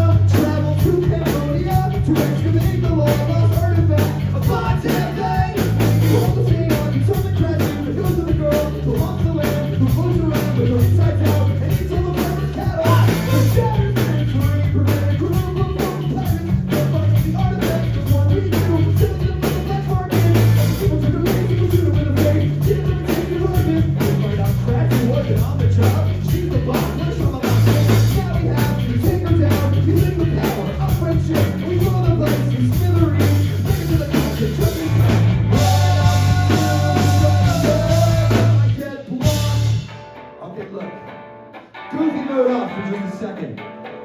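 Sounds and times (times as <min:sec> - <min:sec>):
person singing: 0:00.0 - 0:40.0
live rock band playing: 0:00.0 - 0:44.0.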